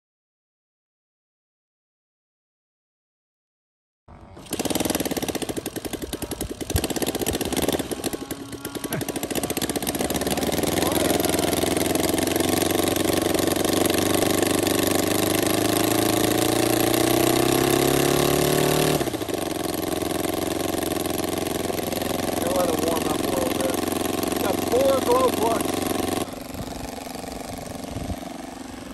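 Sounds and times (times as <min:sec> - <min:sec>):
model airplane engine running: 0:04.1 - 0:28.9.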